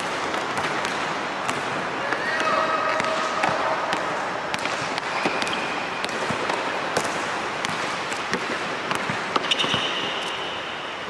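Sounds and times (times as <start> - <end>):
basketball bouncing on court: 0.0 - 10.3
steady background hiss: 0.0 - 11.0.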